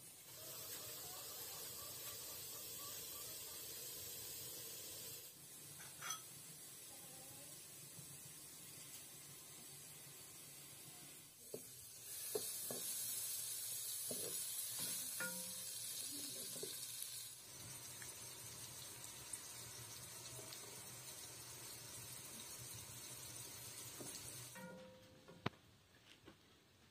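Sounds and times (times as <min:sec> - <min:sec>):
food sizzling in hot oil: 0:00.0 - 0:24.7.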